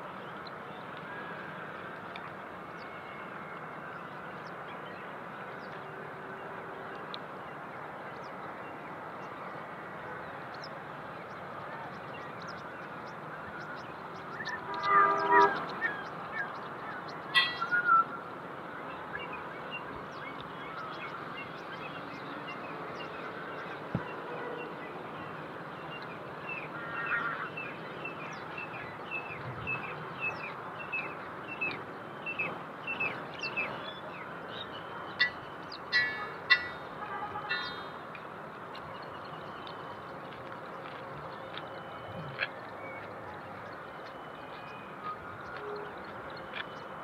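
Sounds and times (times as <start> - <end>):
outdoor background noise: 0.0 - 47.0
birds chirping: 7.4 - 18.2, 18.9 - 47.0.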